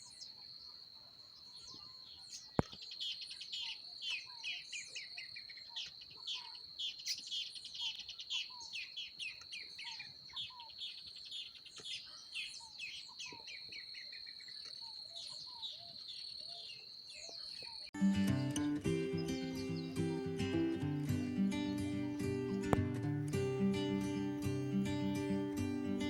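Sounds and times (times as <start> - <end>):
birds calling and singing: 1.3 - 26.0.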